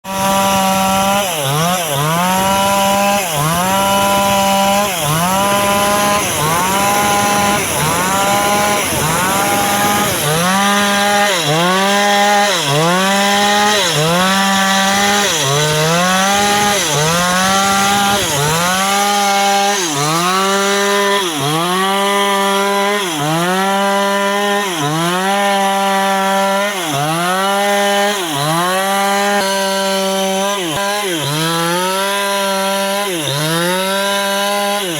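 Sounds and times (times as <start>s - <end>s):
chainsaw at high revs: 0.0s - 34.9s.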